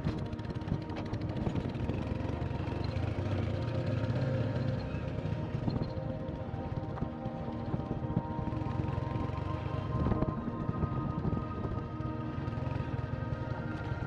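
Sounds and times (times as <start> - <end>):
background music: 0.0 - 14.0
motorcycle engine running: 0.0 - 14.0.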